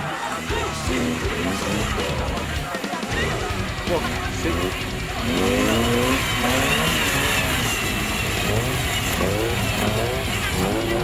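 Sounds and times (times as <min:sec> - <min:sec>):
engine revving hard: 0:00.0 - 0:11.0
high whine: 0:00.4 - 0:11.0.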